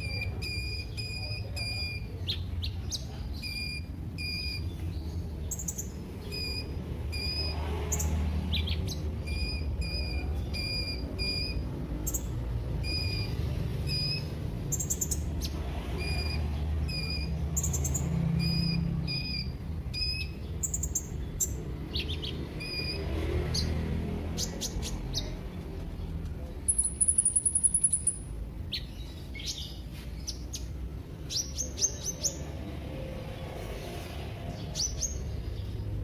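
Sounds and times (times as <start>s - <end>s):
bird chirping and trilling: 0.0s - 25.4s, 26.6s - 32.6s, 34.5s - 36.0s.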